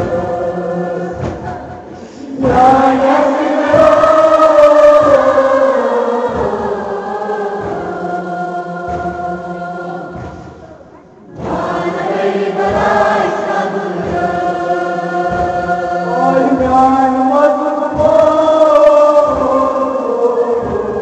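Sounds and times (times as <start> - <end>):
group chanting in unison: 0.0 - 21.0.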